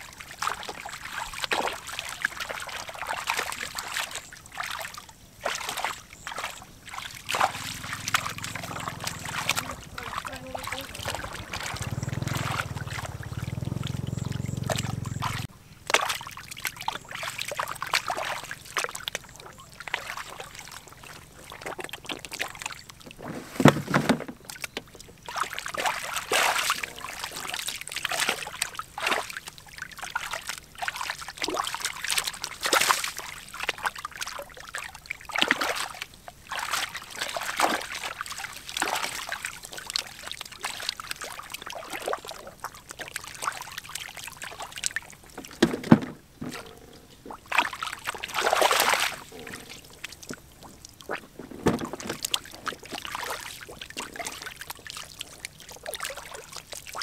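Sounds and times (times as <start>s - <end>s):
hands splashing in muddy water: 0.4s - 20.8s, 24.5s - 57.0s.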